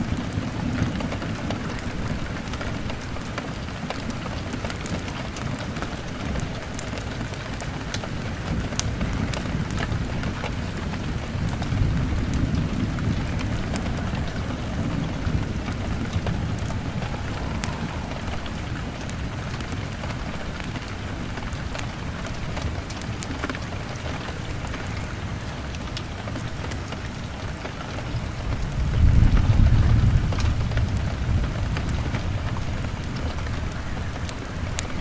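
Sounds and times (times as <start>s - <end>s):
low rumble of thunder: 0.0s - 35.0s
rain on a window: 0.0s - 35.0s
wood fire crackling: 0.0s - 35.0s.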